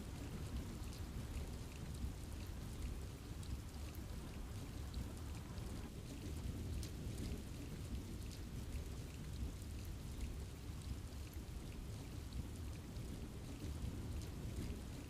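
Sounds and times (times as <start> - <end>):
steady rain: 0.0 - 15.0
sharp raindrop ticks: 0.1 - 15.0.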